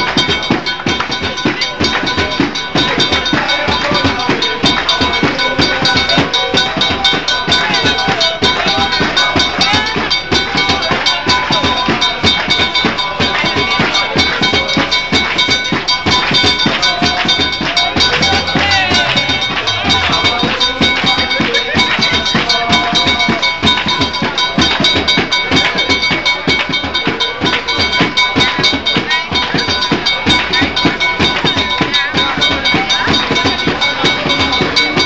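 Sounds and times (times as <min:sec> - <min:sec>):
fast percussion music: 0:00.0 - 0:35.0.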